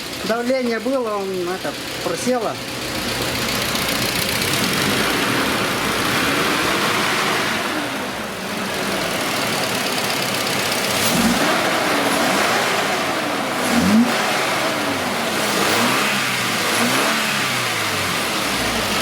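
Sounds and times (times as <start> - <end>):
car engine revving: 2.6 - 19.0.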